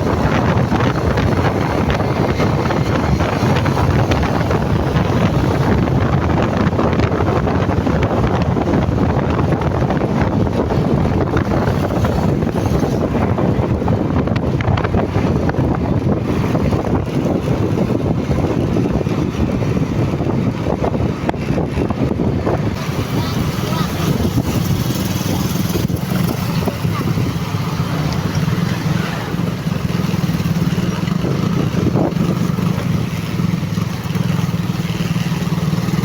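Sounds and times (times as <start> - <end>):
motorcycle engine: 0.0 - 36.0
road noise: 0.0 - 36.0
wind rushing over microphone: 0.0 - 36.0.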